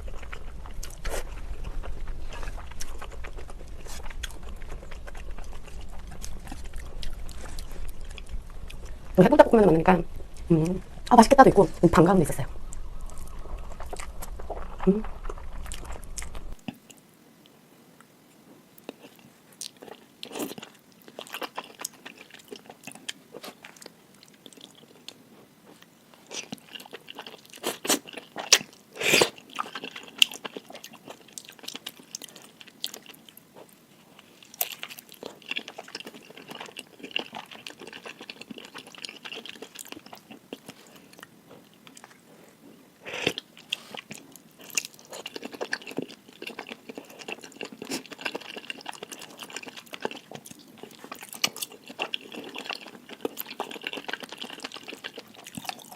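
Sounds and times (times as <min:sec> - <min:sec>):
chewing with wet clicks: 0:00.0 - 0:09.0, 0:12.6 - 0:18.1, 0:18.8 - 0:55.9.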